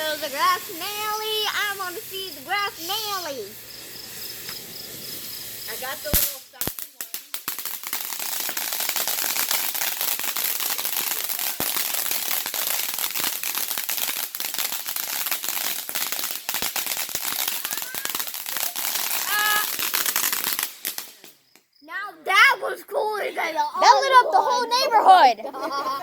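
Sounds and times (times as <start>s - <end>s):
firework crackling: 0.0s - 21.8s.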